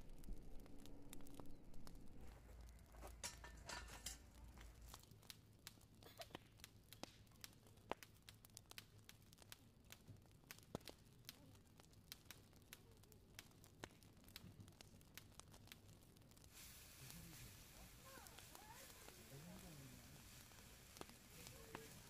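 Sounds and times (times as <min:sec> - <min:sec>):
sharp ticks in skillet: 0:02.6 - 0:22.0.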